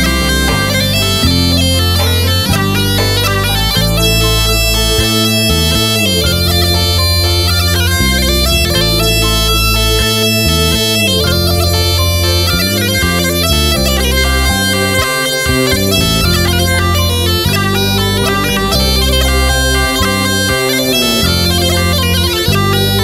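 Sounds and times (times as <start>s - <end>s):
bagpipe melody with drone: 0.0s - 23.0s.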